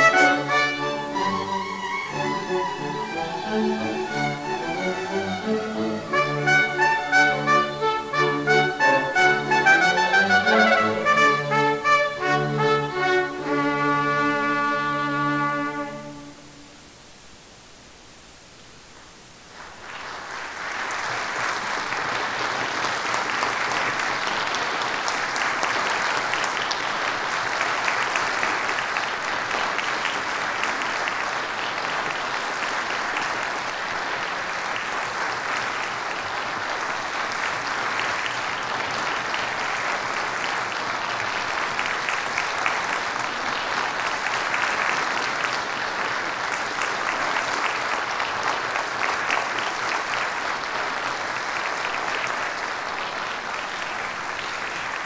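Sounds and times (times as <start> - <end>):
audience applauding: 0.0 - 16.4, 19.5 - 55.0.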